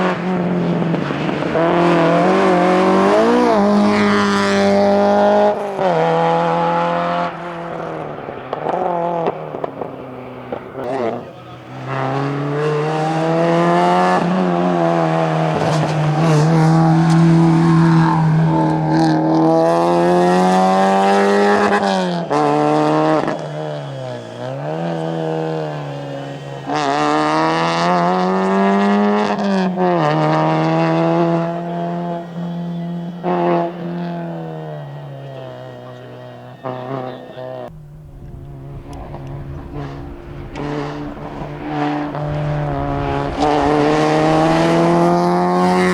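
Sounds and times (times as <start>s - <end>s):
rally car engine revving: 0.0s - 45.9s.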